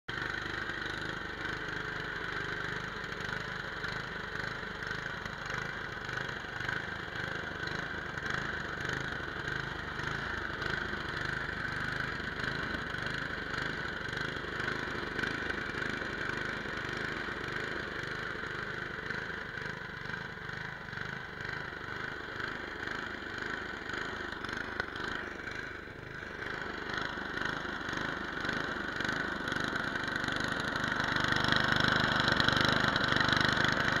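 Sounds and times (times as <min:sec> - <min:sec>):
snowblower engine running: 0:00.1 - 0:34.0.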